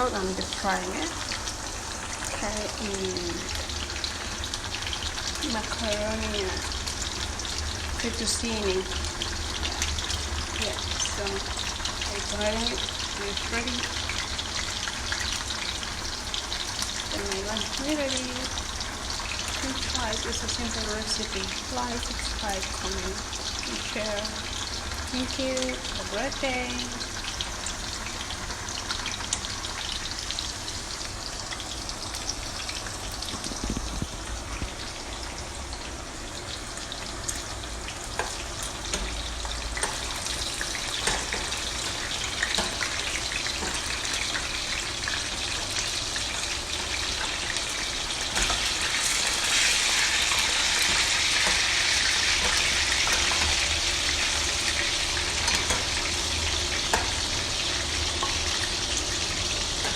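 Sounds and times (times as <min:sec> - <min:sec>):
chicken deep frying in oil: 0:00.0 - 0:59.9.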